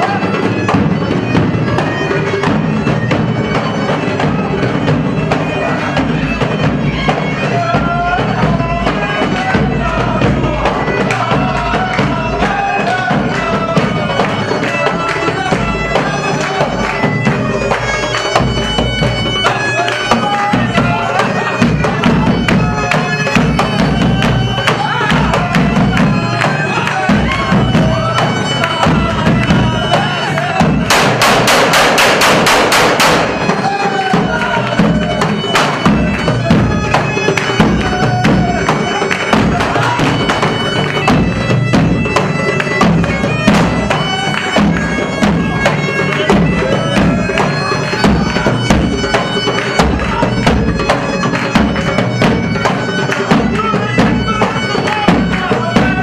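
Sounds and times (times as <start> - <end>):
large drums beating: 0.0 - 56.0
reed pipe melody: 0.0 - 56.0.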